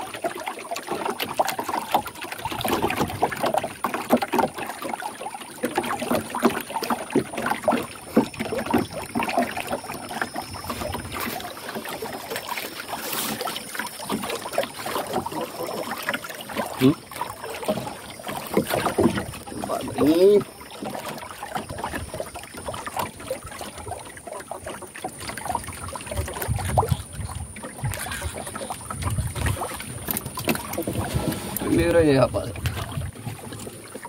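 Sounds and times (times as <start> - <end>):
water lapping against canoe hull: 0.0 - 34.0.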